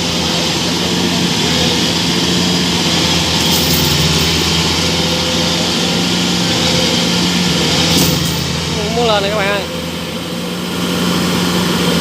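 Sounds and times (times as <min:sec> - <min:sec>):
combine harvester engines running: 0:00.0 - 0:12.0.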